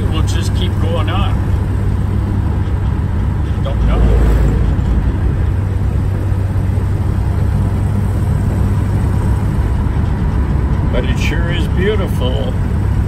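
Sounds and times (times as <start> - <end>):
car engine running: 0.0 - 13.0
tyre and road noise: 0.0 - 13.0.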